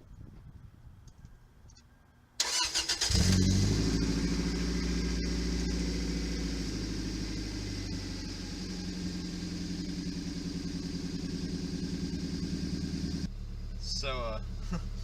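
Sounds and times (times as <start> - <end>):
car engine idling: 2.4 - 15.0.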